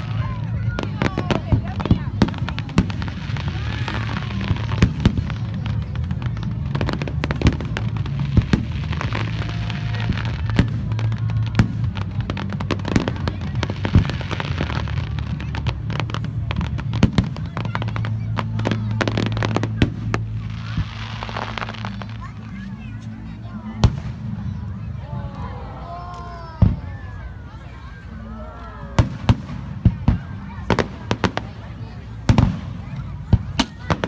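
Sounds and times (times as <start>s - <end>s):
fireworks cracking and popping: 0.0s - 24.6s, 29.0s - 34.0s.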